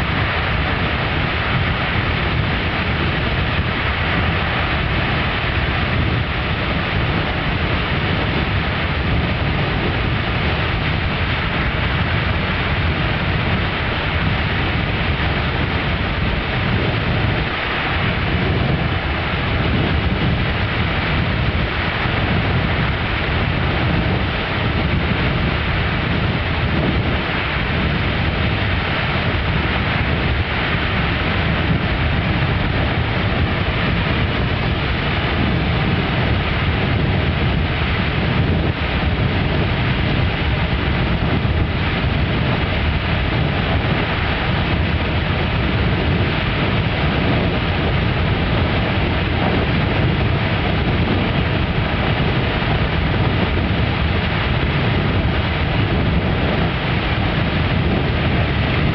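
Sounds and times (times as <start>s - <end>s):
geyser erupting: 0.0s - 58.9s.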